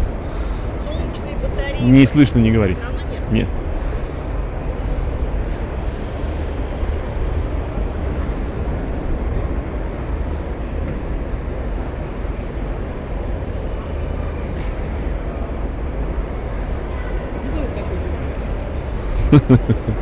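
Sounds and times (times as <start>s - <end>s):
hall room rumble and hum: 0.0s - 20.0s
indistinct crowd chatter: 0.0s - 20.0s.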